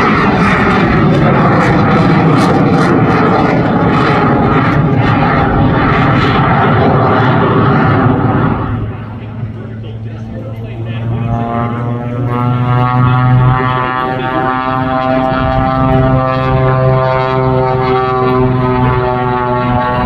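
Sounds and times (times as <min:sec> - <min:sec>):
biplane engine drone overhead: 0:00.0 - 0:20.0.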